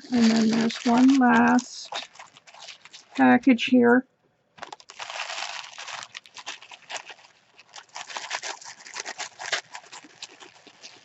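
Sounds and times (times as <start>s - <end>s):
packaging rustling and crinkling: 0.0s - 3.2s, 4.6s - 11.0s.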